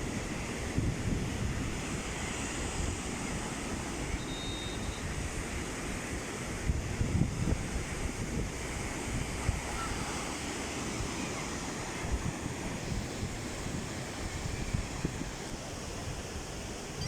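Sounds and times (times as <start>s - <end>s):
wind buffeting microphone: 0.0s - 4.2s, 5.0s - 17.0s
sea waves washing on shore: 0.0s - 17.0s.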